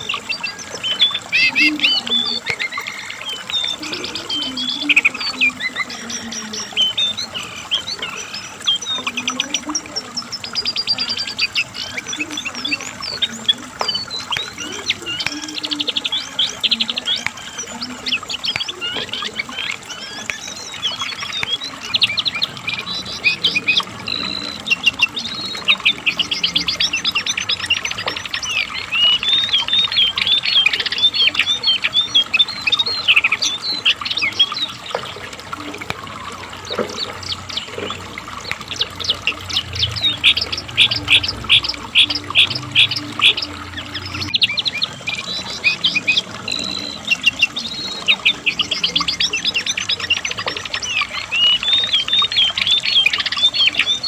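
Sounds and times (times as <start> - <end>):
bird singing chattering phrases: 0.0 - 54.0.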